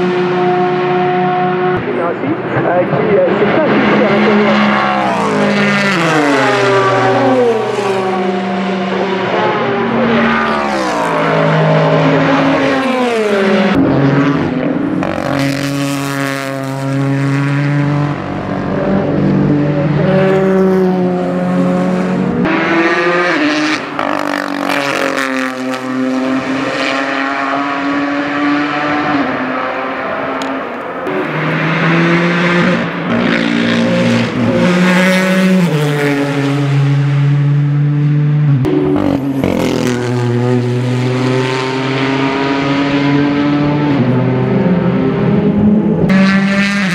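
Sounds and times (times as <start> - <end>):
race car engines passing: 0.0 - 46.9.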